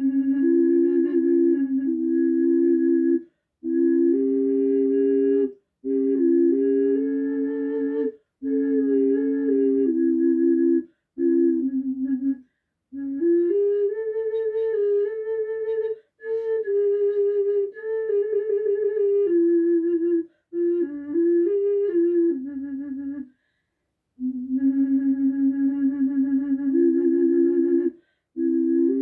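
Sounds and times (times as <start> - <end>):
double ocarina slow melody: 0.0 - 23.6, 24.2 - 29.0.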